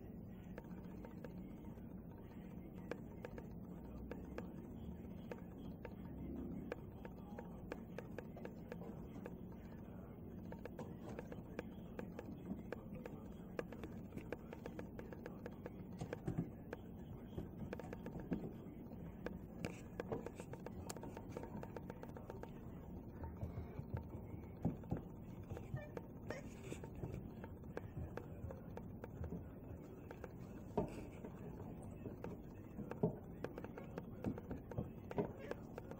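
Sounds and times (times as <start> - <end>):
crows pecking on roof: 0.0 - 35.9
faint steady hum: 0.0 - 35.9.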